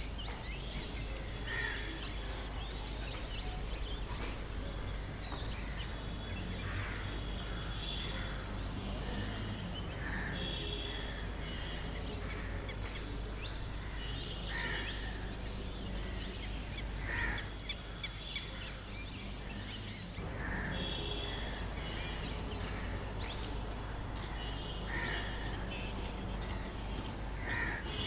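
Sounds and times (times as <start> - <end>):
birds chirping and calling: 0.0 - 28.0.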